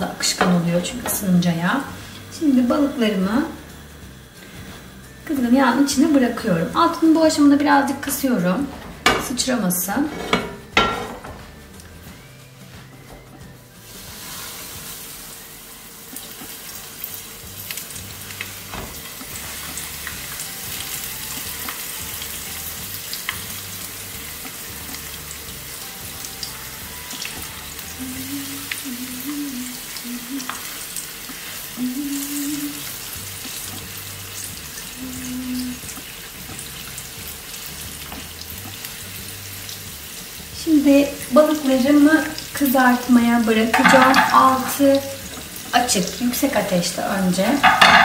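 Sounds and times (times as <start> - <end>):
fish frying in oil: 0.0 - 10.9, 13.7 - 48.0.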